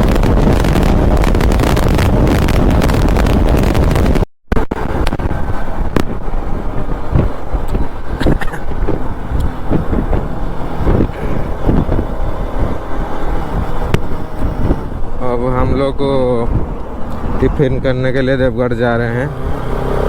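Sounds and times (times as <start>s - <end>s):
motorcycle engine: 0.0s - 17.9s, 18.9s - 20.0s.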